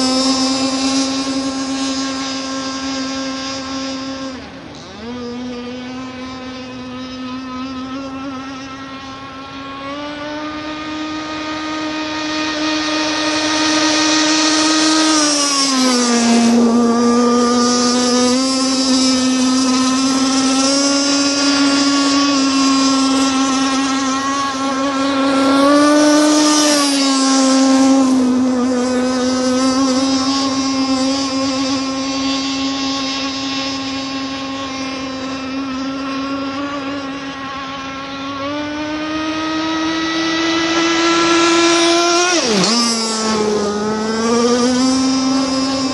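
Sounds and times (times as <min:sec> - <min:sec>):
model boat motor whining: 0:00.0 - 0:45.9.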